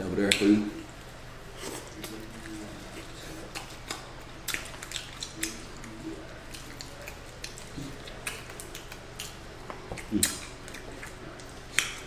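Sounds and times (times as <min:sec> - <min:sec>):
steady low hum: 0:00.0 - 0:12.0
chewing and lip smacking: 0:00.2 - 0:12.0.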